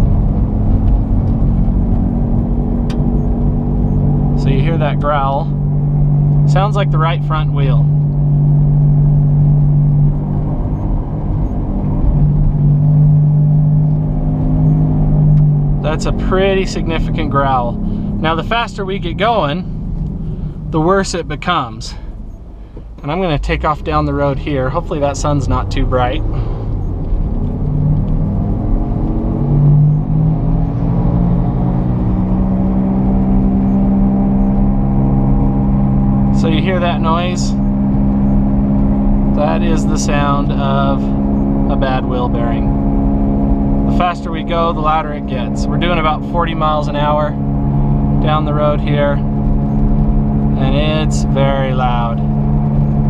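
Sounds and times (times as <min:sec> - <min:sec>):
car accelerating from inside cabin: 0:00.0 - 0:53.0
engine and tyre noise: 0:00.0 - 0:53.0.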